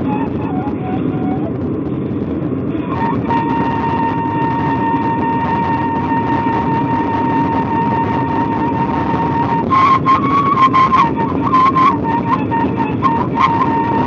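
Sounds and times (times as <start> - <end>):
flute holding long note: 0.0 - 1.7, 2.8 - 14.0
loud low rumble: 0.0 - 14.0.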